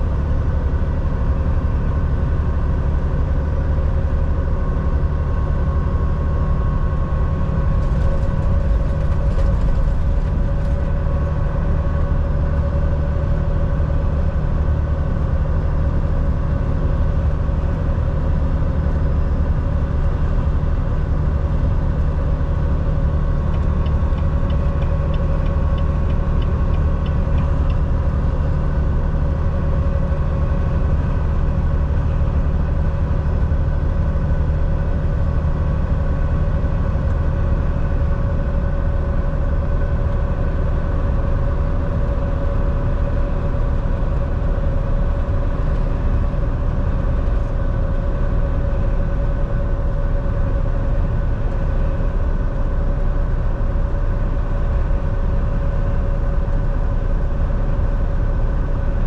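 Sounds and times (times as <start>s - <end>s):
truck diesel engine drone: 0.0s - 59.0s.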